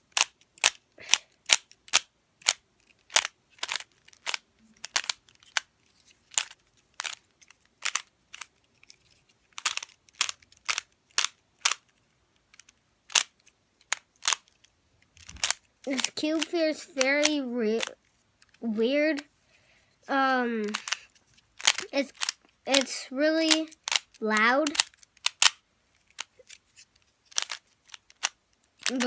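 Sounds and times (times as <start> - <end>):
puzzle cube plastic clicks: 0.1 - 19.3, 20.1 - 29.0.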